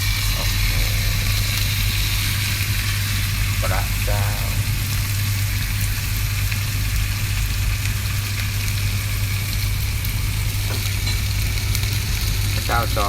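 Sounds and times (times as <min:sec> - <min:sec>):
constant low hum: 0:00.0 - 0:13.0
steak sizzling in a frying pan: 0:00.0 - 0:13.0.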